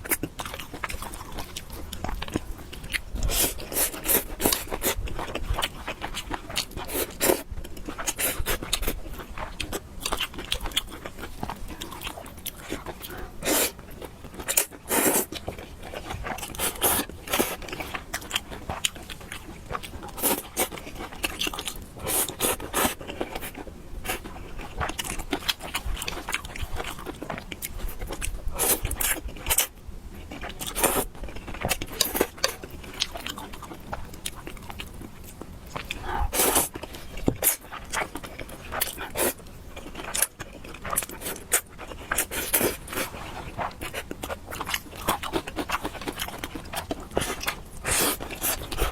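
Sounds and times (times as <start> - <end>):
person chewing noodles: 0.0 - 48.9.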